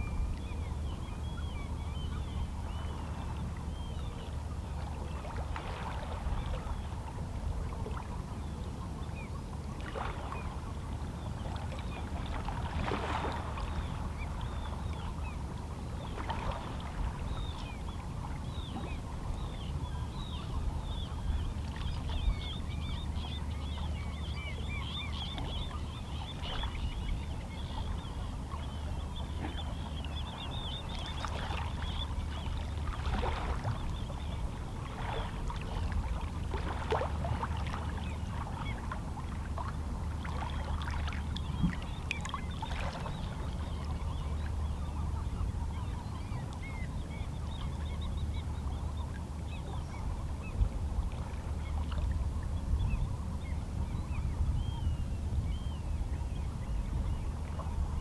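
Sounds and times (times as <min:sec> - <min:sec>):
low rumble of water: 0:00.0 - 0:58.0.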